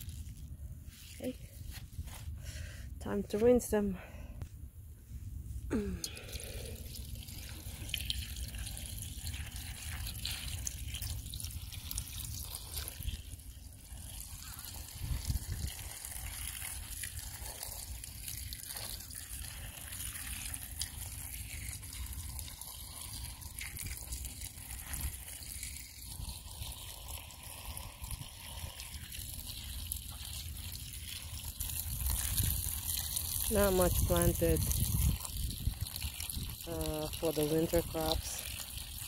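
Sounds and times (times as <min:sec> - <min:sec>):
hose water splashing into bowl: 0:00.0 - 0:01.3, 0:06.0 - 0:39.0.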